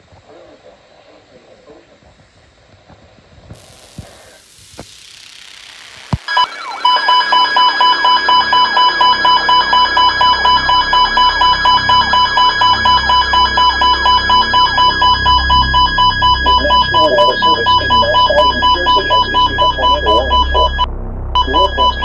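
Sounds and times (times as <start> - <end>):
rapid pulsing electronic alarm beeps: 3.6 - 22.0
short electronic blips: 3.6 - 22.0.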